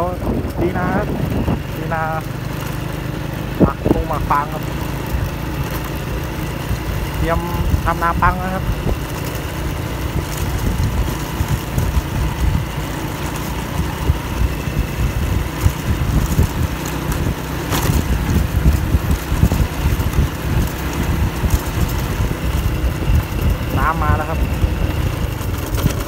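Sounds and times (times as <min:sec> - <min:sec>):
small motorcycle engine running: 0:00.0 - 0:26.0
wind buffeting microphone: 0:00.0 - 0:26.0.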